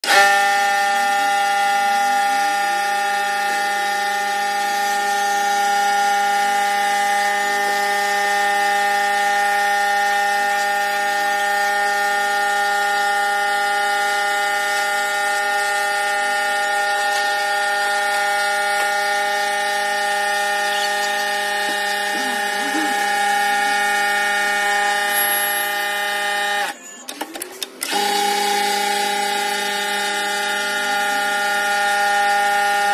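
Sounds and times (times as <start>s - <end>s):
lathe high-pitched whine: 0.0s - 27.1s, 27.8s - 32.9s.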